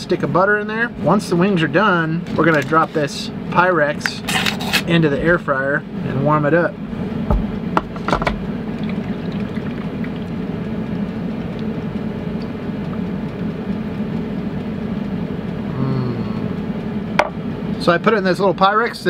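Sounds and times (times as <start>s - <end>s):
air fryer fan whirring: 0.0s - 19.0s.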